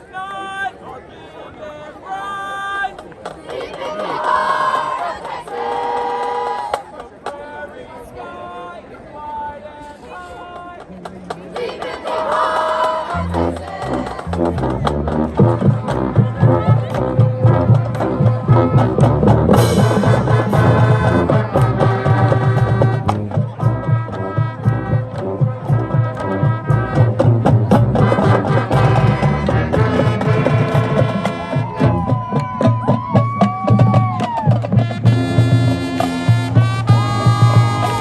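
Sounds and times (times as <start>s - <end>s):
drumline beat: 3.0s - 7.3s, 10.8s - 38.0s
marching band playing: 3.2s - 6.9s, 11.0s - 38.0s.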